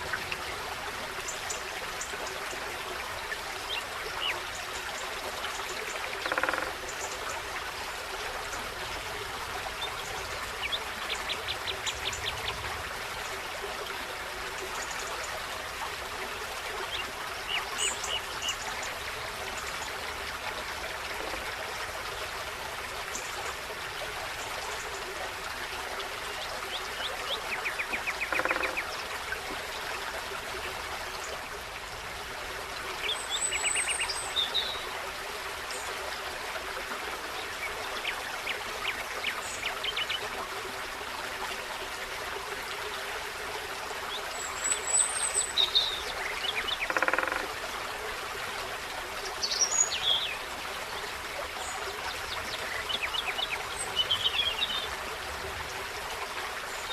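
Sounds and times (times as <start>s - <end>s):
stream babbling: 0.0s - 56.9s.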